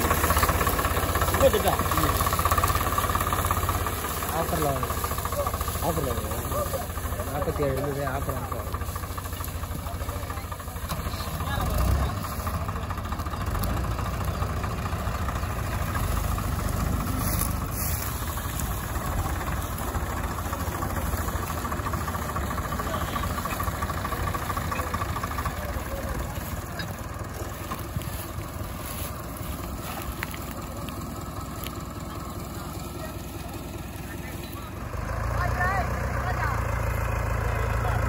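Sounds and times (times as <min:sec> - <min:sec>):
diesel tractor engines rumbling: 0:00.0 - 0:38.0.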